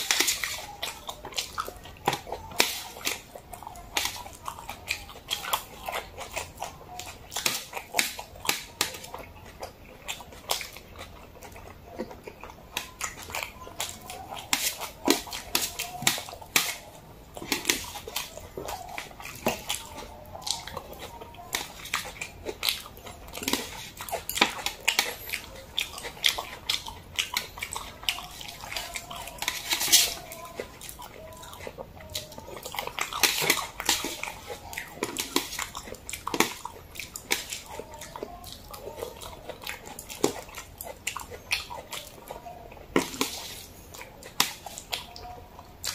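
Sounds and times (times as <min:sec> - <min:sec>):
wet chewing and lip smacking: 0:00.0 - 0:45.9.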